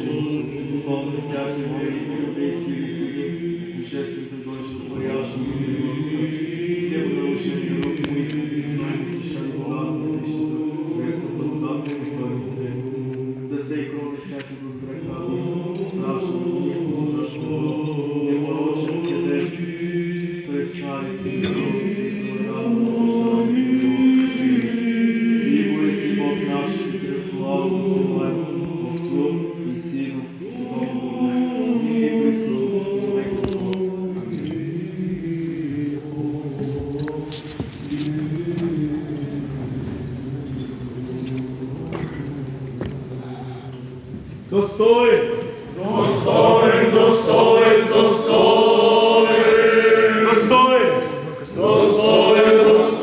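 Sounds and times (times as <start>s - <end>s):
men chanting a hymn: 0.0s - 53.0s.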